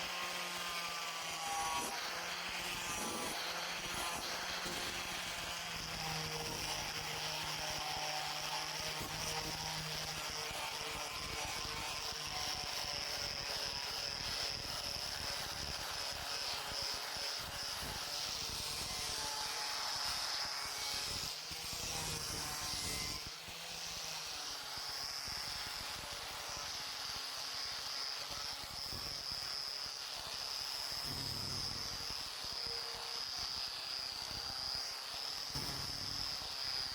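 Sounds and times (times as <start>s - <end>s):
power tool motor whining: 0.0s - 36.9s.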